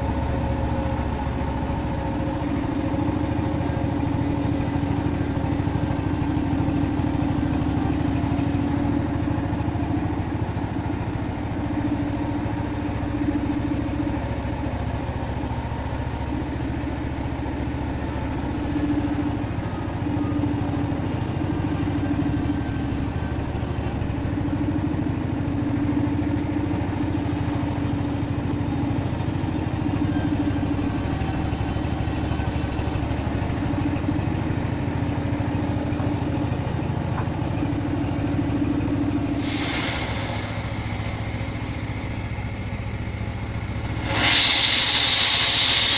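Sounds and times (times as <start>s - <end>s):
sawmill engine drone: 0.0s - 45.9s.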